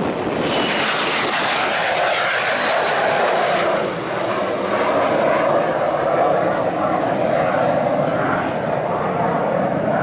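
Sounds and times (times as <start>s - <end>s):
jet engines at takeoff: 0.0s - 10.0s.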